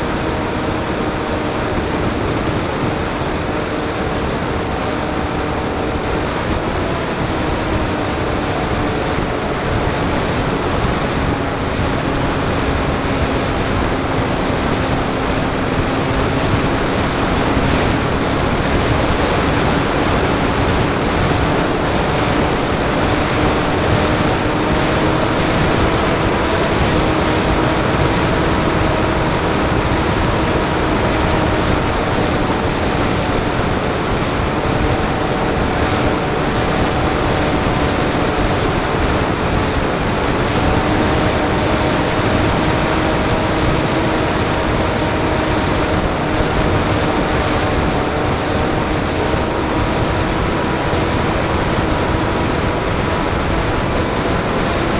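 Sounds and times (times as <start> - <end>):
electric motor and propeller hum: 0.0 - 54.9.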